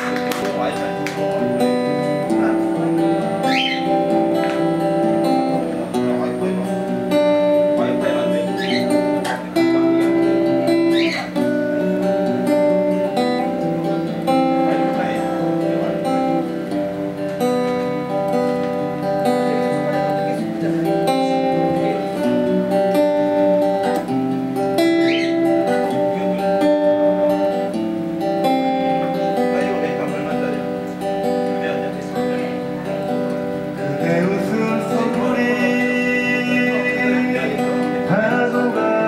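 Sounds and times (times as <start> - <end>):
acoustic guitar melody: 0.0 - 39.0.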